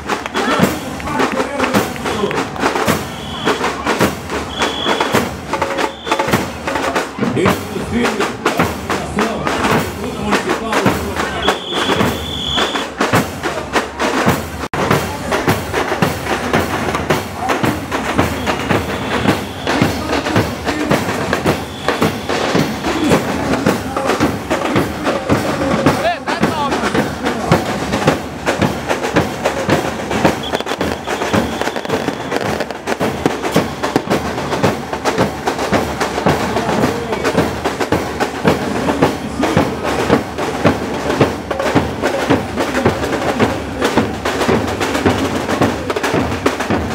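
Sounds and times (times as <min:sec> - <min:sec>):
bass drums: 0:00.0 - 0:46.9
snare drums: 0:00.0 - 0:46.9.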